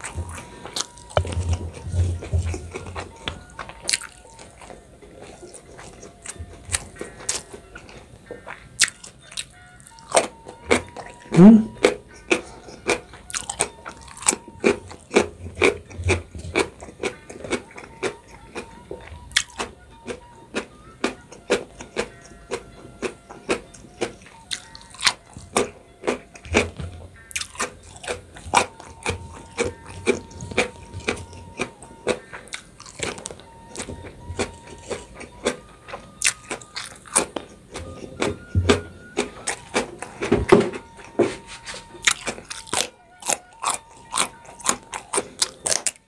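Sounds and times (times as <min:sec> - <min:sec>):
crunchy chewing of raw beans: 0:00.0 - 0:46.0.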